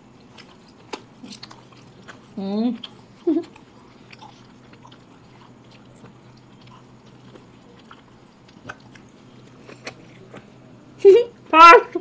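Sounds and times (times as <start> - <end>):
people chewing and sucking candy: 0.0 - 10.8.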